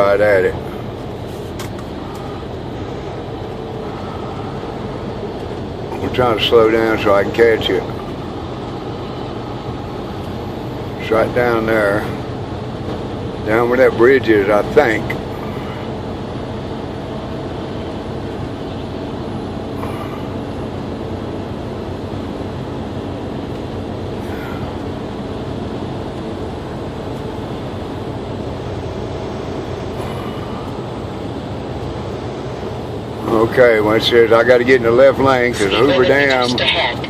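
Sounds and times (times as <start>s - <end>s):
truck engine drone: 0.0s - 37.0s.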